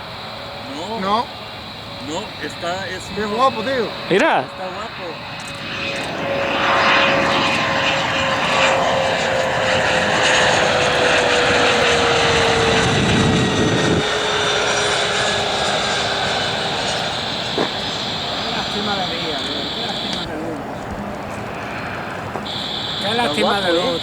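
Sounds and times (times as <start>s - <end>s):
airliner engines passing: 0.0s - 24.0s.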